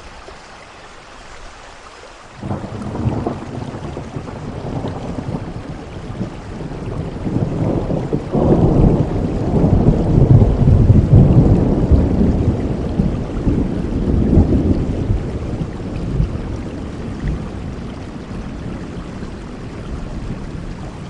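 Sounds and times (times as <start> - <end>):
steady rainfall: 0.0 - 21.0
rolling thunder: 2.4 - 21.0.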